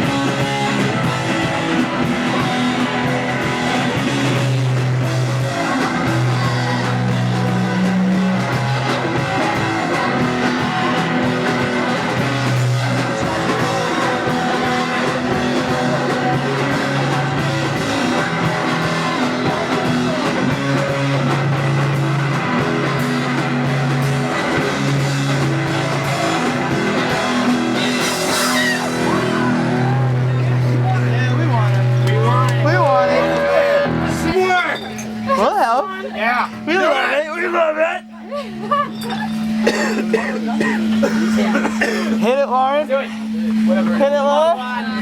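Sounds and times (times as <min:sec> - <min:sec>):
electric guitar: 0:00.0 - 0:36.7
bass guitar low notes: 0:00.0 - 0:36.8
drums: 0:00.0 - 0:45.0.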